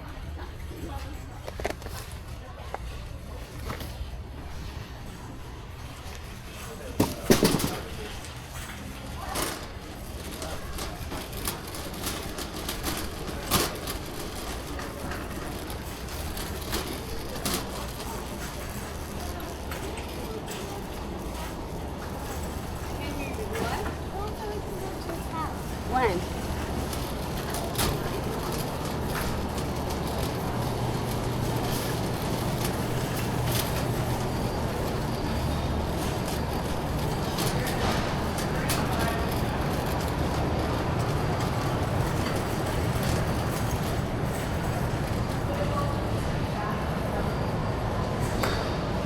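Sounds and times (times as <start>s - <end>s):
store ambience hum: 0.0s - 49.0s
shopping cart rolling and rattling: 0.2s - 49.0s.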